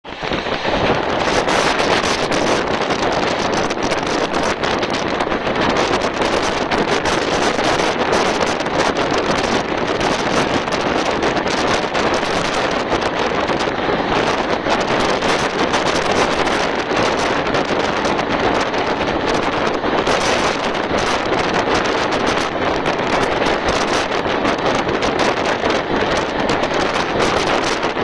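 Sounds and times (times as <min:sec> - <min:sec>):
train rushing over tracks: 0:00.0 - 0:28.0
wind buffeting microphone: 0:00.0 - 0:28.0.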